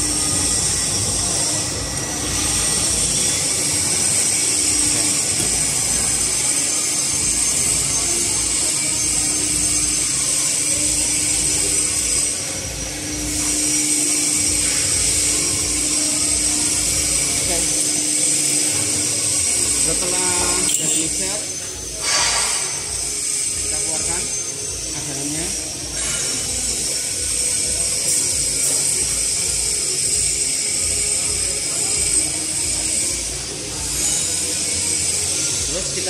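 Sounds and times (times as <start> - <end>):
electric mixer humming: 0.0 - 36.0.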